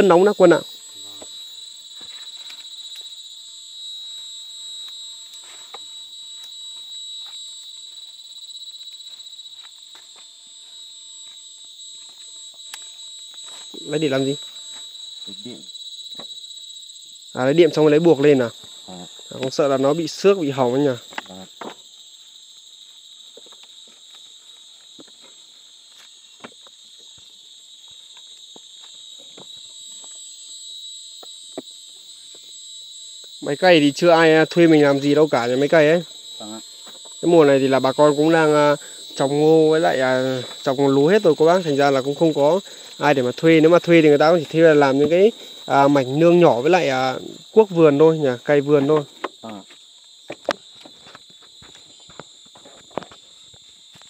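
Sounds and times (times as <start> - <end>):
insects buzzing: 0.0 - 54.0.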